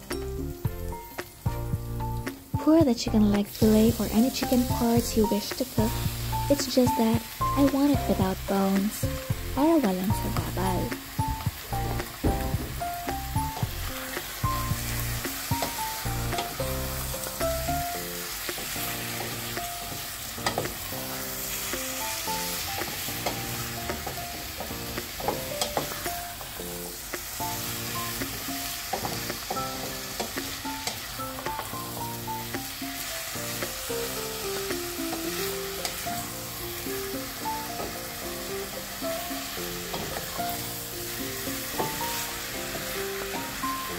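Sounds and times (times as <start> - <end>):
chicken sizzling in a pan: 0.0 - 43.9
gentle background music: 0.0 - 43.9.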